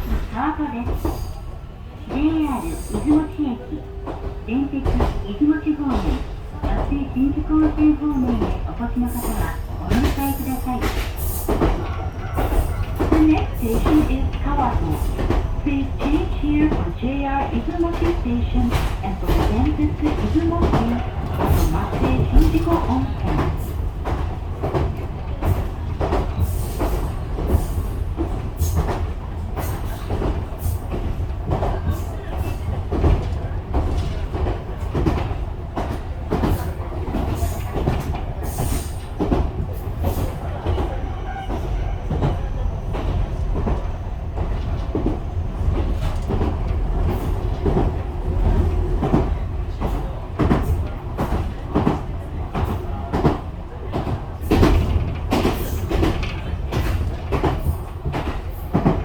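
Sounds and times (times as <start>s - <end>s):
train rumble inside carriage: 0.0s - 59.0s.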